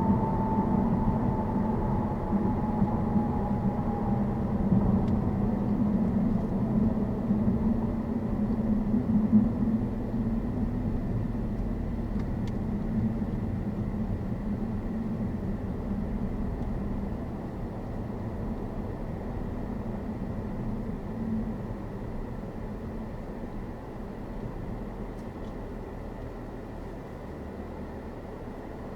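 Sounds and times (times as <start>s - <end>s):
car engine drone: 0.0s - 28.9s.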